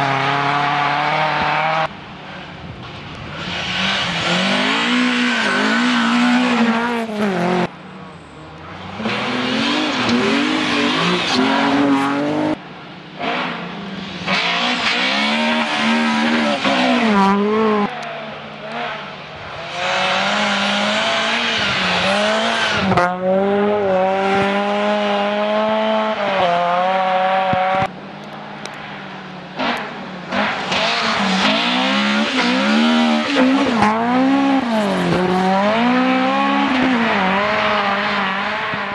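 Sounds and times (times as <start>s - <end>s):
rally car engines revving: 0.0s - 38.9s.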